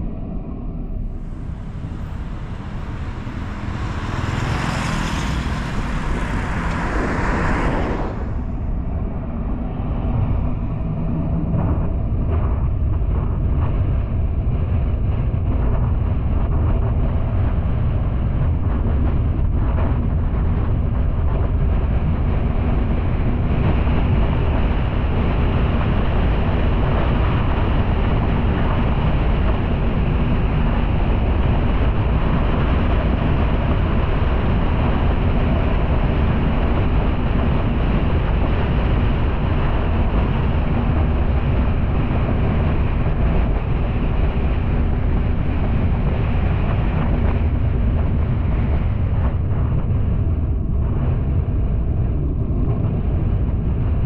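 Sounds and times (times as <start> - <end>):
engine and tyre rumble: 0.0 - 54.0.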